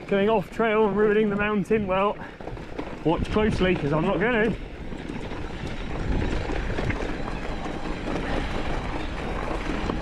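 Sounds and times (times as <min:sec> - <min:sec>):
bike tyres crunching on rock: 0:00.1 - 0:10.0.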